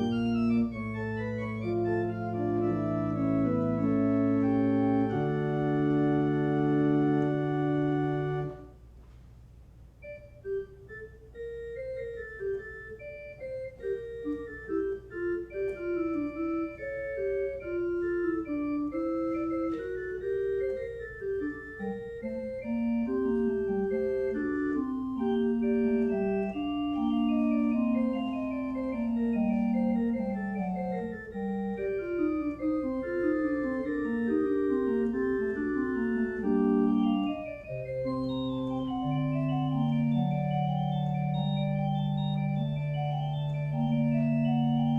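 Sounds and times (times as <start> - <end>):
organ music: 0.0 - 8.9, 10.0 - 44.9.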